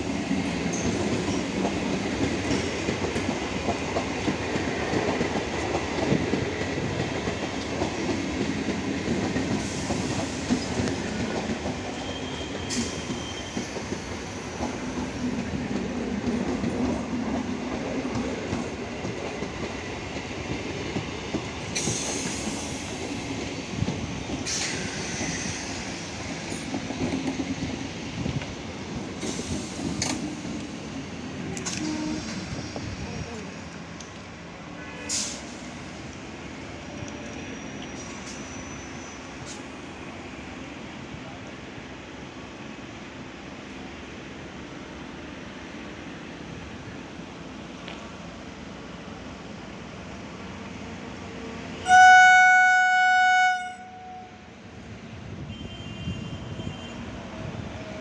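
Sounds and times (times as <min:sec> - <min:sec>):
train rolling past: 0:00.0 - 0:55.5, 0:56.3 - 0:58.0.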